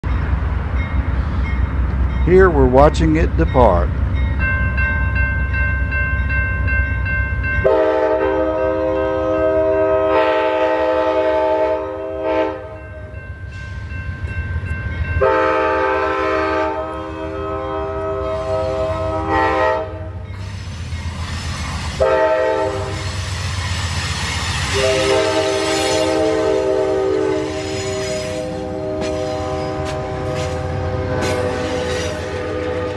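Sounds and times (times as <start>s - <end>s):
train on rails: 0.0s - 32.9s
locomotive chime horn: 2.2s - 20.3s, 22.0s - 23.0s, 24.7s - 32.9s.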